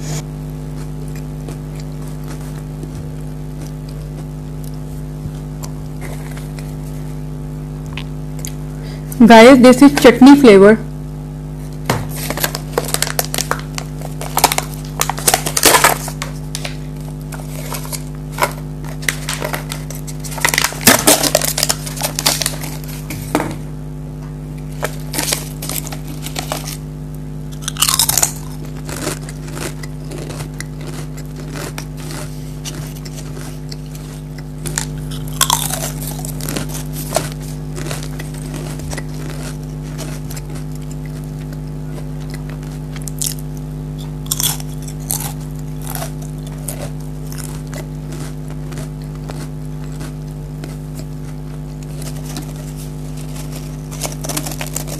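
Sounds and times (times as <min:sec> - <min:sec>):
crisps crunching: 0:00.1 - 0:07.3, 0:11.6 - 0:23.3, 0:24.6 - 0:54.9.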